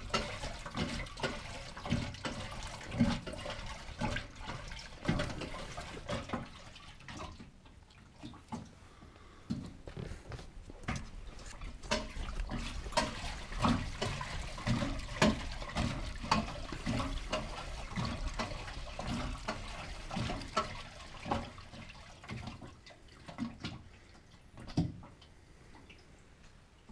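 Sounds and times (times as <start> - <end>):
fuel gurgling in tank: 0.0 - 26.2.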